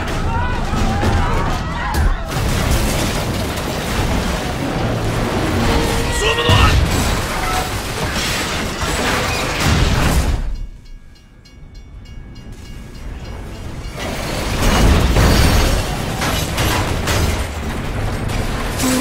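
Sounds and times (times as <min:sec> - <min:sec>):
train carriages crashing and scraping: 0:00.0 - 0:19.0.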